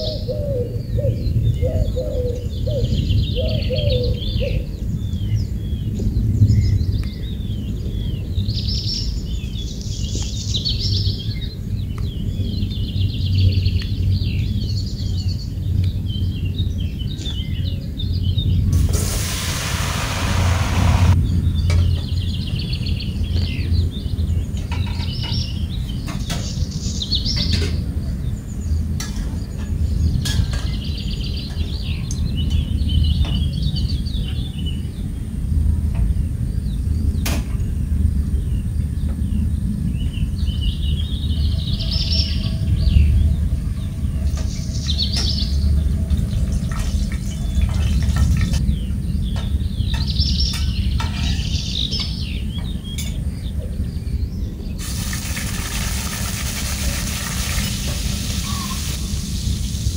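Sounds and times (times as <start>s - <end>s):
small birds chirping: 0.0s - 19.2s, 21.0s - 59.9s
steady low rumble: 0.1s - 59.9s.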